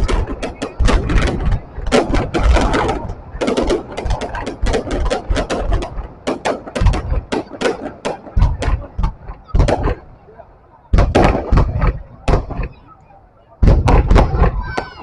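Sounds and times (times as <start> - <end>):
fireworks cracks and pops: 0.0 - 10.2, 10.9 - 13.0, 13.6 - 15.0
fireworks booms: 0.0 - 15.0.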